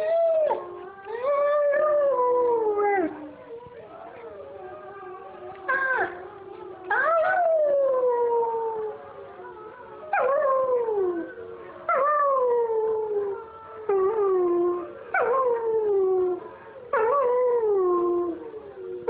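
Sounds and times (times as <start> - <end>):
dog howling: 0.0 - 19.0.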